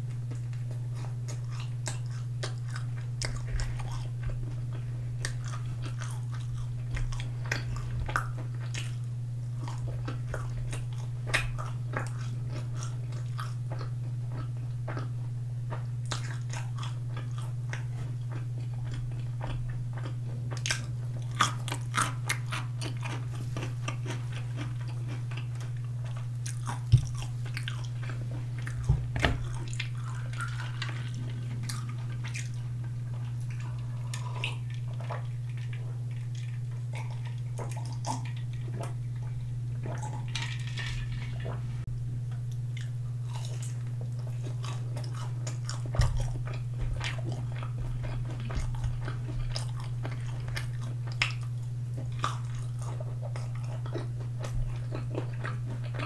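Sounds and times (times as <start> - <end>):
biting and chewing food: 0.0 - 56.0
steady low hum: 0.0 - 56.0.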